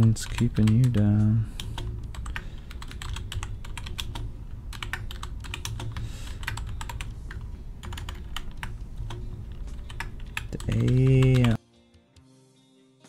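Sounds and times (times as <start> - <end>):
keyboard typing: 0.0 - 11.6
low steady hum: 0.0 - 11.6.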